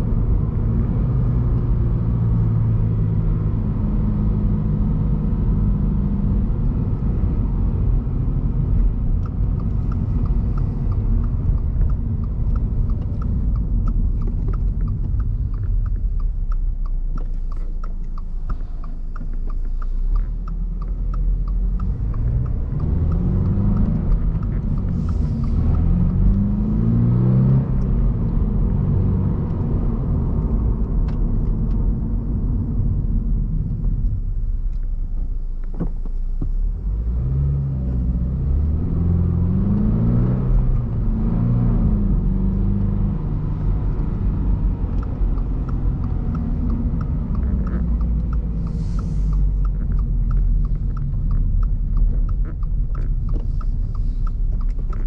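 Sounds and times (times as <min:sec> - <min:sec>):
car engine revving: 0:00.0 - 0:34.4, 0:36.7 - 0:55.0
turn signal clicking: 0:06.6 - 0:55.0.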